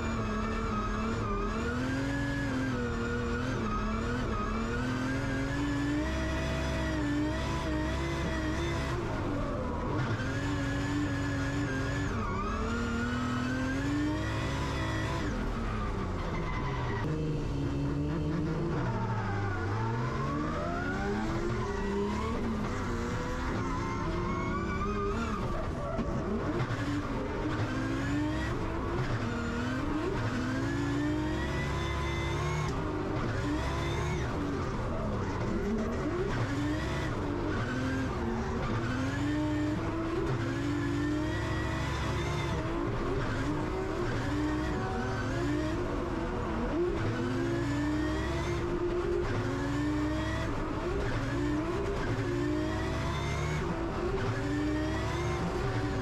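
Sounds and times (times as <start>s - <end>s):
car engine revving hard: 0.0s - 16.2s, 17.0s - 56.0s.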